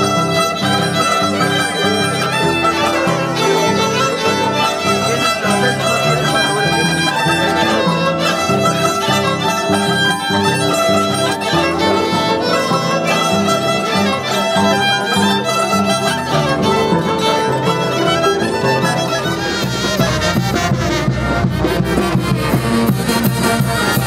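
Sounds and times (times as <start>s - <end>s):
harp plucked bass notes: 0.0s - 24.0s
mandolin: 0.0s - 24.0s
violin melody: 0.0s - 24.0s.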